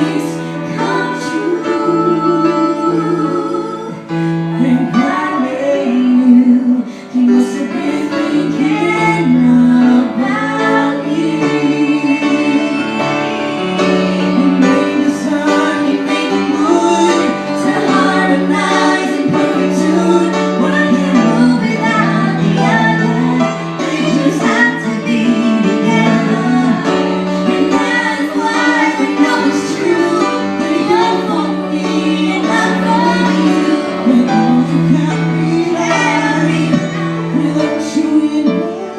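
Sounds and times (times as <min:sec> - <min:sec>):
live instrumental accompaniment: 0:00.0 - 0:38.9
woman singing: 0:00.0 - 0:38.9.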